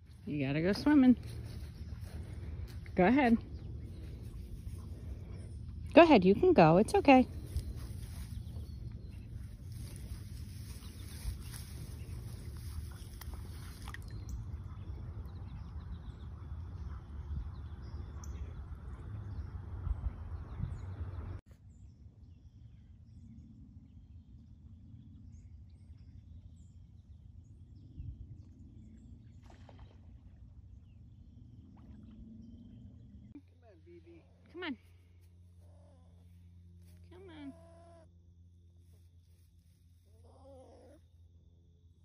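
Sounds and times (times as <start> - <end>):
steady low rumble: 0.0 - 37.2.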